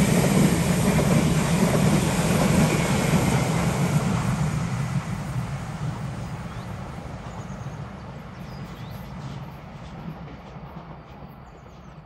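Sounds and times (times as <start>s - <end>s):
train rolling on rails: 0.0s - 12.0s.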